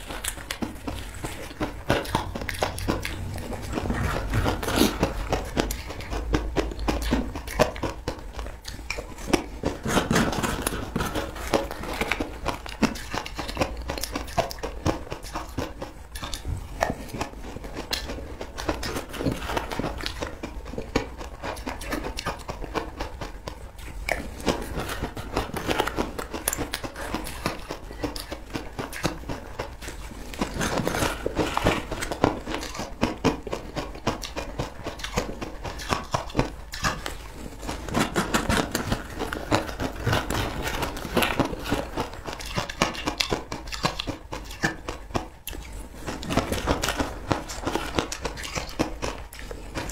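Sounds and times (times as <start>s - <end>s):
crunchy chewing: 0.0s - 49.9s.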